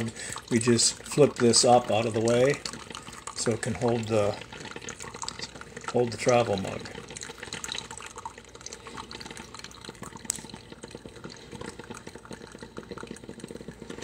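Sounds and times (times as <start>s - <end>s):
coffee dripping into mug: 0.0s - 14.0s.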